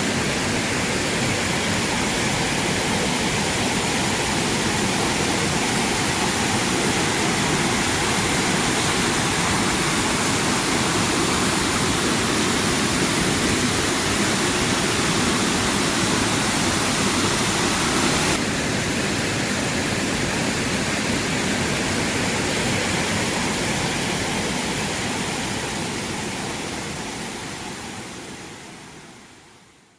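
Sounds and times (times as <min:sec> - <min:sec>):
waterfall roaring: 0:00.0 - 0:28.4.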